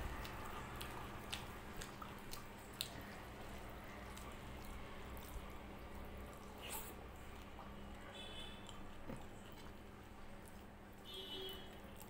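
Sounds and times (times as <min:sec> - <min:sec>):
wet squishes of fingers mixing food: 0:00.0 - 0:12.0.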